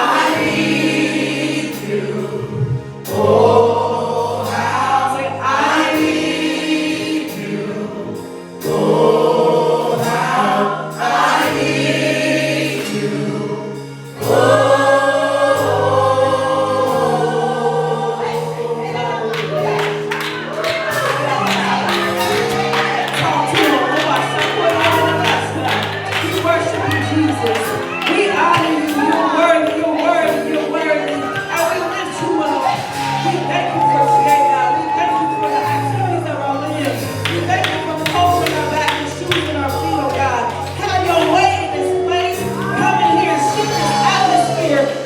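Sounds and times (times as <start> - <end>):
gospel choir singing: 0.0 - 45.0
instrumental accompaniment: 0.0 - 45.0
sustained bass notes: 0.0 - 45.0.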